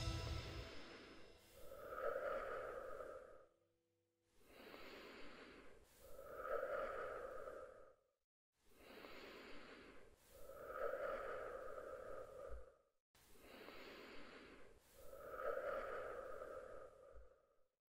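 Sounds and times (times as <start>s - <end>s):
faint slow breathing: 0.0s - 3.6s, 4.2s - 17.8s.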